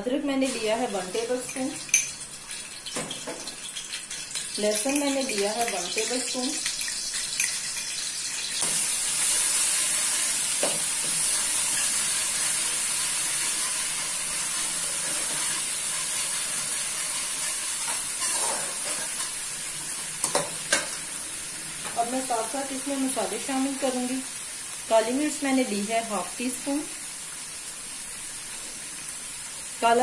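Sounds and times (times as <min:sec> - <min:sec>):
ginger and garlic sizzling: 0:00.0 - 0:30.0.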